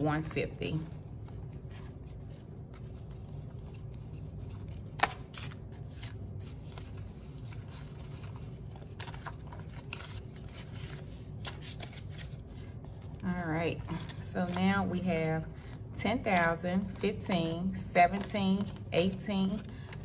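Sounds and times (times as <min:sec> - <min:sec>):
banknotes rustling: 0:00.0 - 0:20.0
steady low hum: 0:00.0 - 0:20.0.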